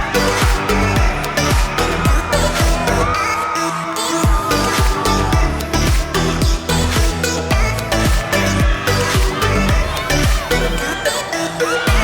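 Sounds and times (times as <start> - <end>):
deep booming kick drums: 0.0 - 3.1, 4.2 - 10.8
electronic dance-pop music: 0.0 - 12.0.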